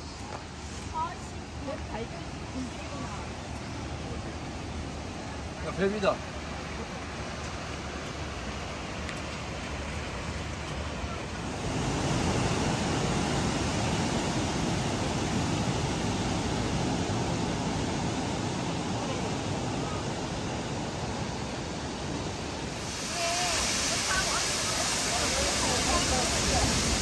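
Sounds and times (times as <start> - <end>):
waterfall rushing: 1.0 - 27.0.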